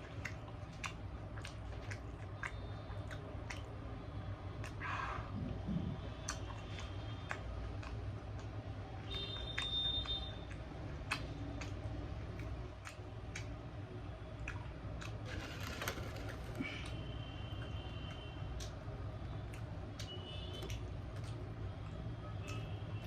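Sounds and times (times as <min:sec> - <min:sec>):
mouth clicks and smacks: 0:00.0 - 0:23.0.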